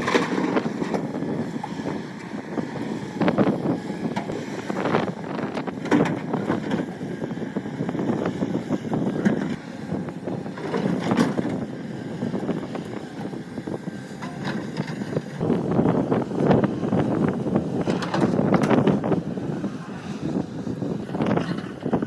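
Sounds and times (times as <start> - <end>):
excavator engine under load: 0.0 - 22.0.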